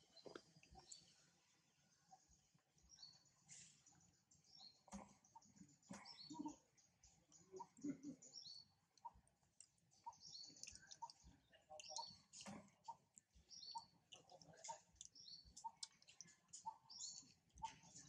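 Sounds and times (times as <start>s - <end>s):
faint bird chirping: 0.0s - 18.0s.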